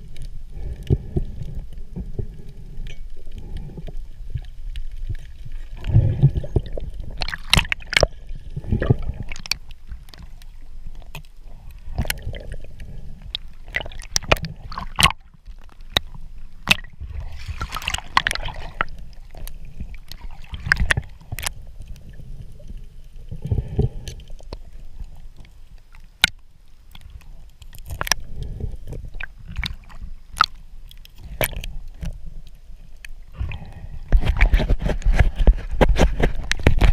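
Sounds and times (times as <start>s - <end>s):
muffled underwater sloshing: 0.0s - 36.9s.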